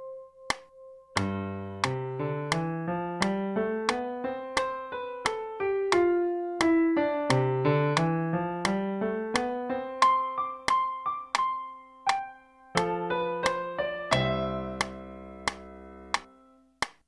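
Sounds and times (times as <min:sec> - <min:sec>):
electric piano melody: 0:00.0 - 0:16.7.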